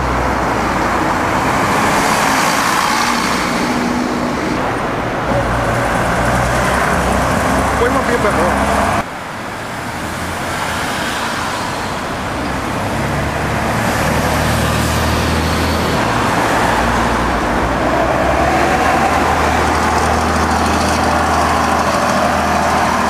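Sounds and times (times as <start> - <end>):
bus engine passing by: 0.0 - 23.0
cars passing: 0.0 - 23.0.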